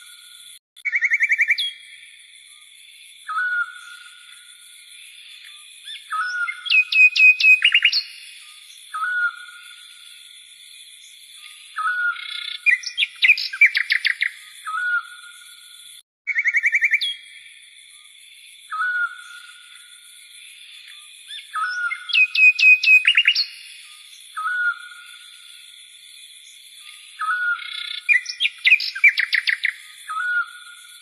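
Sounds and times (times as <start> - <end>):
songbirds chirping: 0.8 - 31.0.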